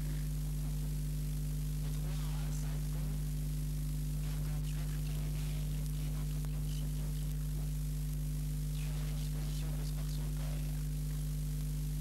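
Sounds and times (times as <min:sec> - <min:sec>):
electrical mains hum: 0:00.0 - 0:12.0
faint crackle and hiss: 0:00.0 - 0:12.0.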